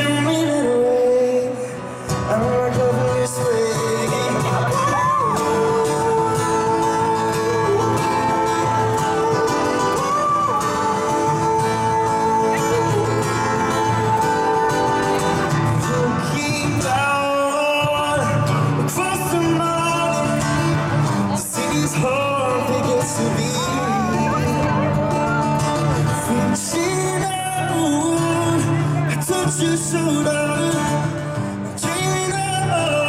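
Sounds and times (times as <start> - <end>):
guitar accompaniment: 0.0 - 33.0
man singing: 0.0 - 33.0.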